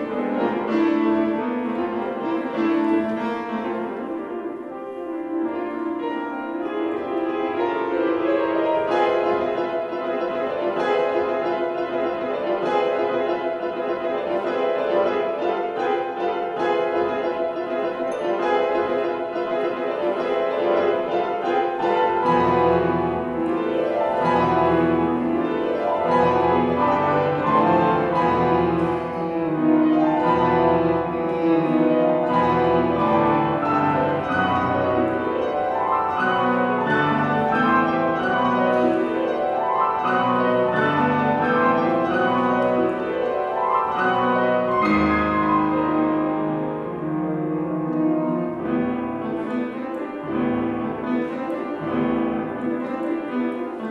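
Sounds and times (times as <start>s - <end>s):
solo grand piano: 0.0s - 53.9s.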